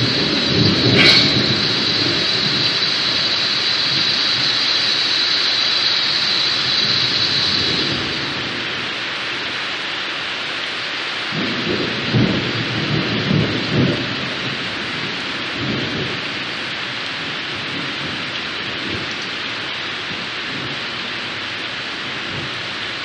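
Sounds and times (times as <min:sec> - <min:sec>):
thunder rumbling: 0:00.0 - 0:09.8, 0:11.3 - 0:23.0
steady rain: 0:00.0 - 0:23.0.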